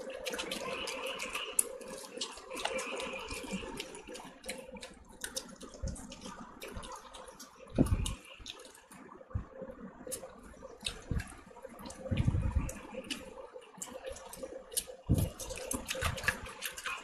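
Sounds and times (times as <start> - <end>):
fingers squelching through food: 0.0 - 9.0, 10.0 - 17.0
faint steady hum: 0.0 - 17.0
wet chewing and mouth sounds: 0.0 - 17.0.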